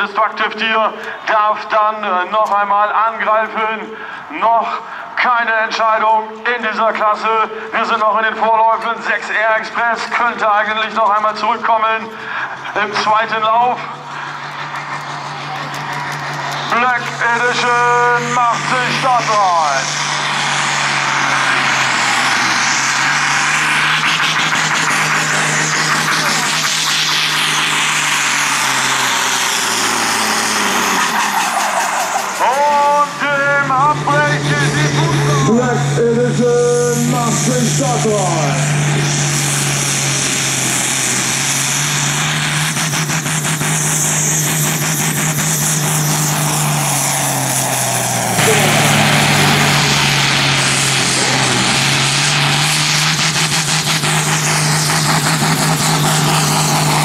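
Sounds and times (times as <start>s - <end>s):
diesel tractor at full throttle: 0.0s - 57.0s.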